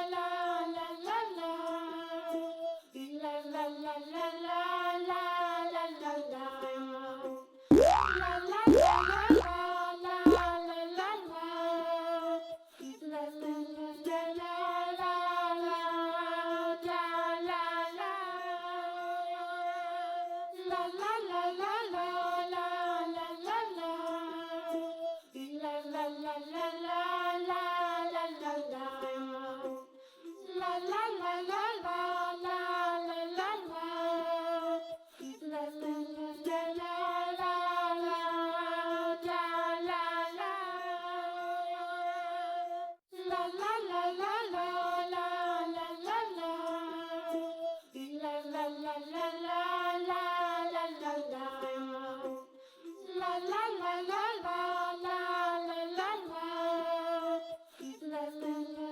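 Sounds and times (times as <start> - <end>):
child-like voice singing la la la: 0.0 - 58.9.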